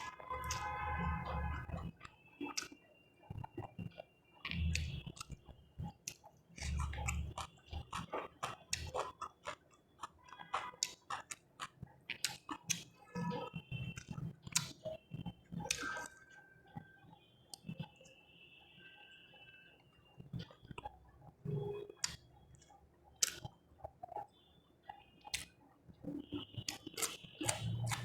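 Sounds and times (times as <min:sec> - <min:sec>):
person chewing food: 0:00.0 - 0:16.8, 0:20.3 - 0:28.0.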